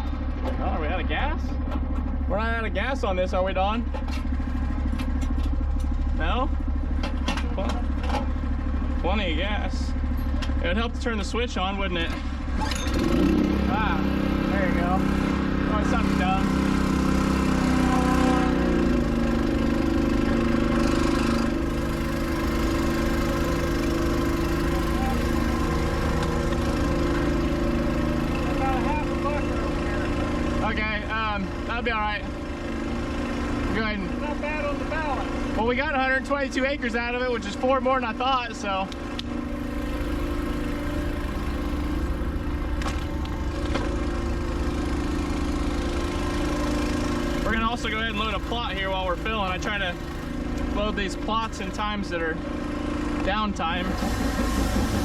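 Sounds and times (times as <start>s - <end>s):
small gasoline engine running: 3.7s - 55.0s.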